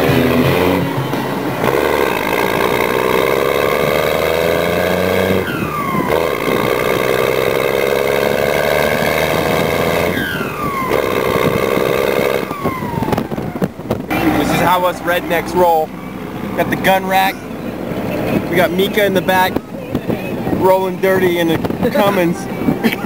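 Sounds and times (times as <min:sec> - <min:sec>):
diesel engine accelerating hard: 0:00.0 - 0:23.0.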